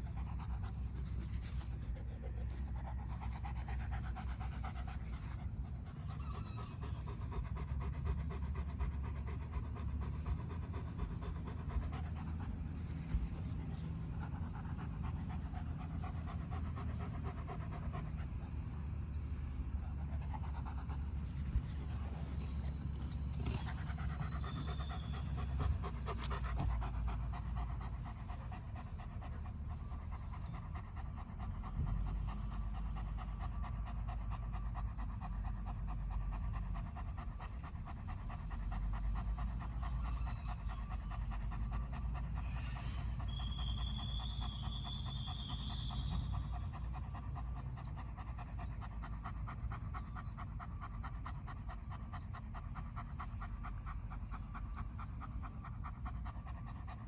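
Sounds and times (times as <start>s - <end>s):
dog panting: 0.0s - 57.0s.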